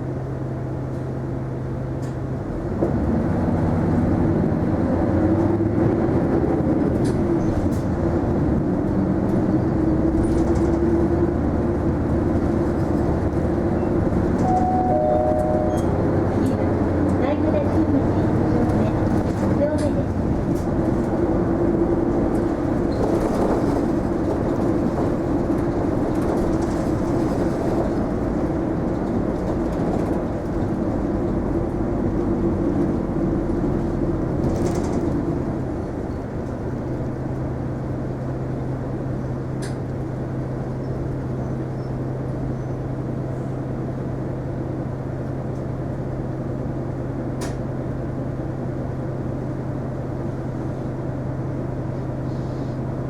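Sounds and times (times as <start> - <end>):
bus engine running: 0.0 - 53.0.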